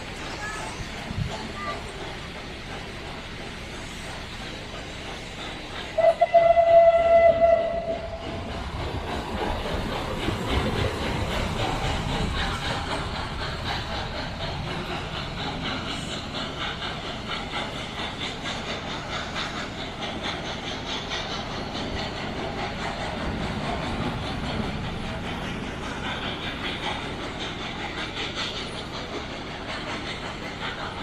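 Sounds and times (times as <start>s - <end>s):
steam train running: 0.0s - 31.0s.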